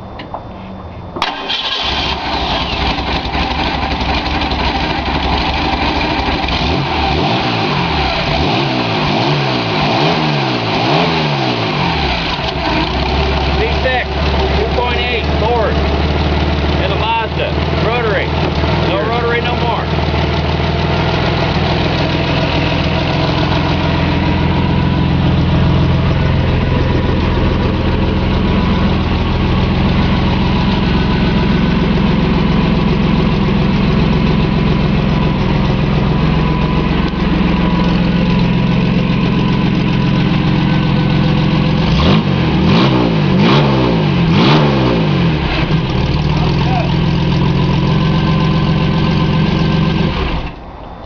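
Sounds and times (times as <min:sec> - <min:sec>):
engine idling and revving: 0:01.2 - 0:51.0.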